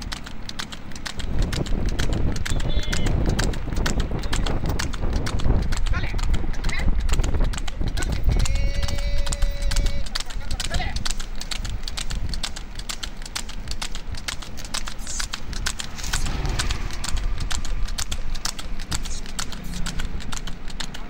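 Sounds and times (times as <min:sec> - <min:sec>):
hooves clopping on asphalt: 0:00.0 - 0:21.0
steady low rumble: 0:00.0 - 0:21.0.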